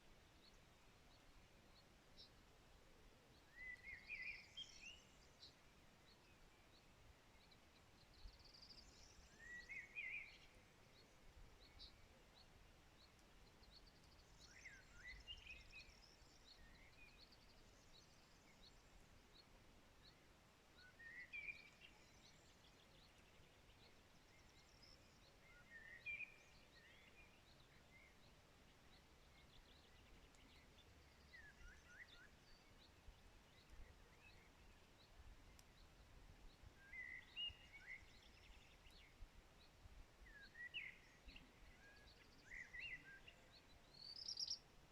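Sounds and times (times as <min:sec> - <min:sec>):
faint steady hiss: 0:00.0 - 0:44.9
bird chirping: 0:03.3 - 0:44.9.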